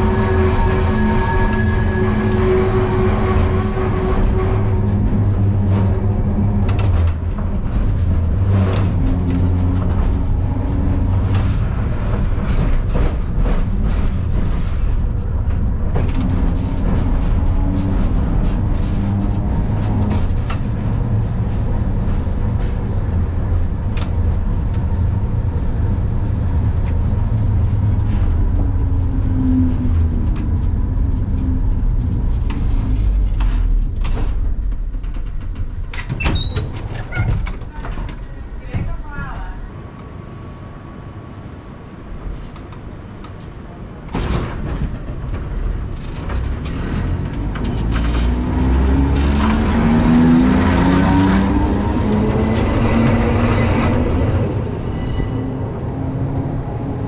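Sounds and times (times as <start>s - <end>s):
tram motors and wheels rumbling: 0.0s - 57.0s.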